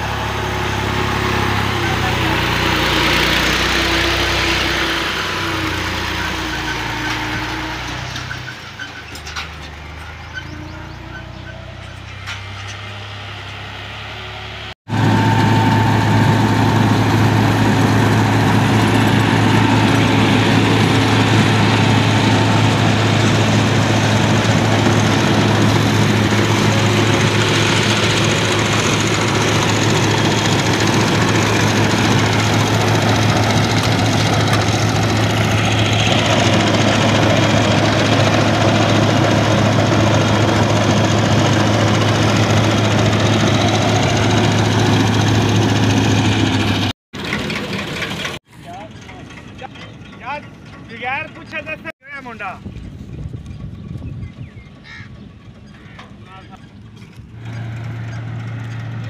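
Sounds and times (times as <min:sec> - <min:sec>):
straw reaper mechanical drone: 0:00.0 - 0:59.0
tractor engine running: 0:00.0 - 0:59.0.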